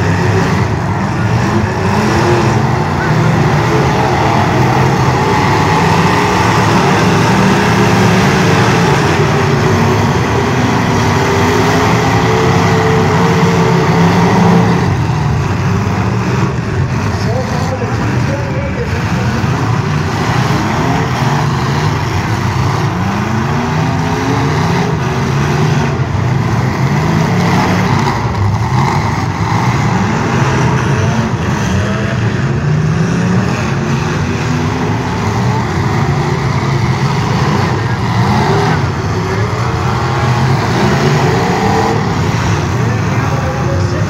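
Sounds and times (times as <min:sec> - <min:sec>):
car engines revving hard: 0:00.0 - 0:44.0.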